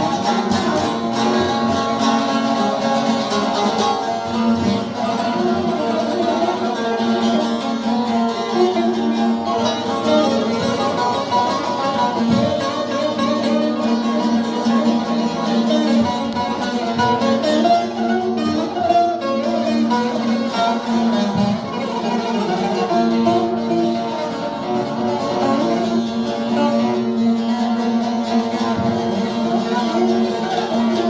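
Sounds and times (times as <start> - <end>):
plucked string instrument melody: 0.0 - 31.0.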